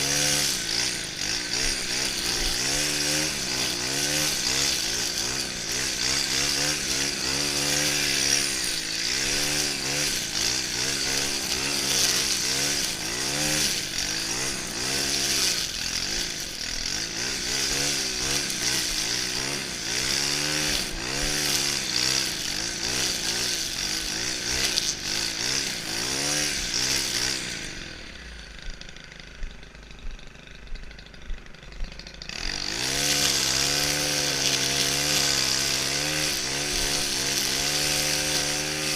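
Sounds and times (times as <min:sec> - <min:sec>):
brushcutter engine revving: 0:00.0 - 0:38.9.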